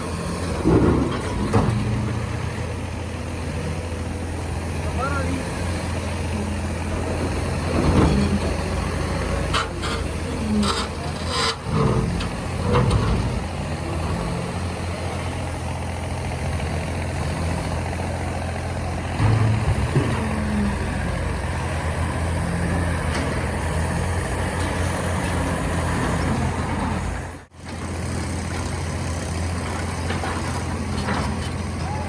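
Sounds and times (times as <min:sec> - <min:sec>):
bulldozer diesel engine drone: 0:00.0 - 0:32.0.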